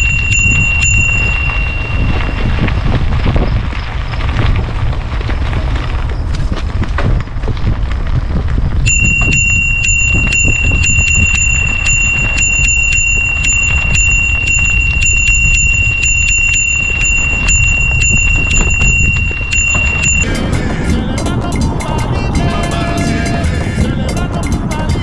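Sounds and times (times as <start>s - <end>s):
bicycle squealing: 0.0s - 6.6s, 8.8s - 25.0s
bicycle ticking: 0.0s - 25.0s
wind rumble on microphone: 0.0s - 25.0s.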